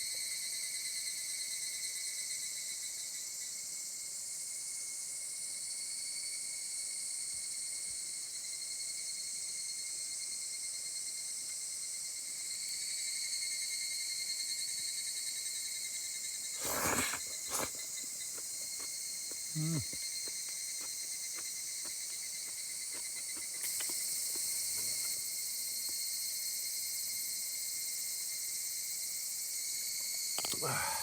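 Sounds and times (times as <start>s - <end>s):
insects trilling: 5.6s - 31.0s.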